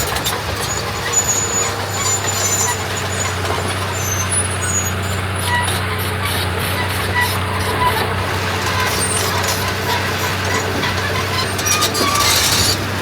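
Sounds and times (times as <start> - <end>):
heavy diesel machinery droning: 0.0 - 13.0
short high squeaks: 0.0 - 13.0.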